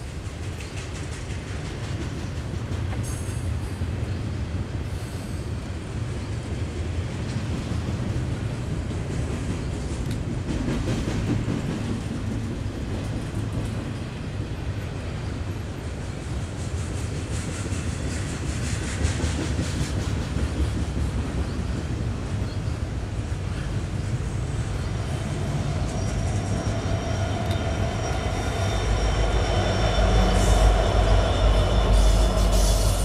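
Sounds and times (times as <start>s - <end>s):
train clicks: 0.0s - 4.1s, 5.1s - 33.0s
steel wheels rumbling on rail: 0.0s - 33.0s.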